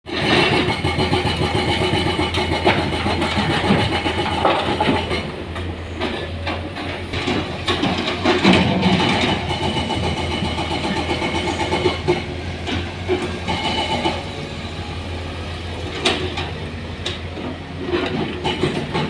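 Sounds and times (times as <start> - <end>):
knocks and clatter: 0.1 - 14.3, 15.9 - 19.0.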